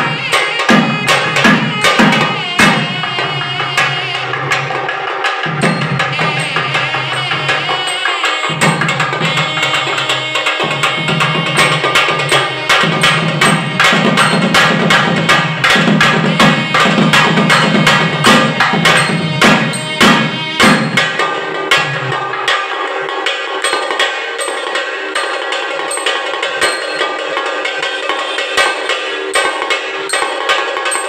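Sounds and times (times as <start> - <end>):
wind instrument wavering melody: 0.0 - 22.1, 23.6 - 31.0
small hand drum: 0.0 - 31.0.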